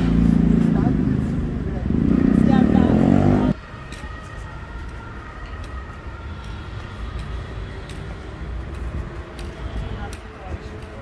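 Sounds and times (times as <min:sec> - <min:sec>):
distant traffic rumble: 0:00.0 - 0:11.0.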